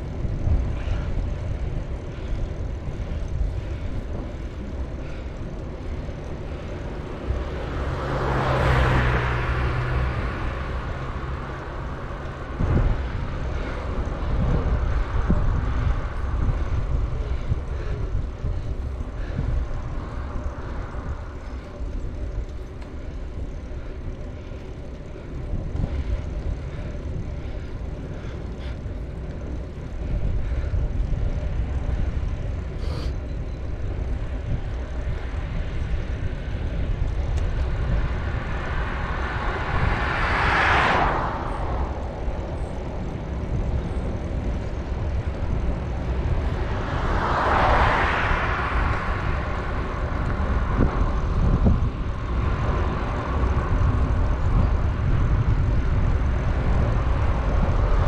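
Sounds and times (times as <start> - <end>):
bicycle road noise: 0.0 - 58.0
passing motor vehicle: 0.0 - 58.0
wind rumbling on microphone: 0.0 - 58.0.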